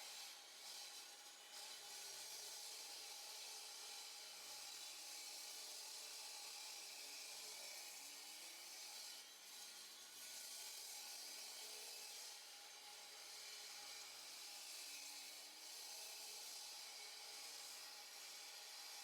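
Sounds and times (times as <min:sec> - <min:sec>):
saw cutting concrete: 0:00.0 - 0:19.0.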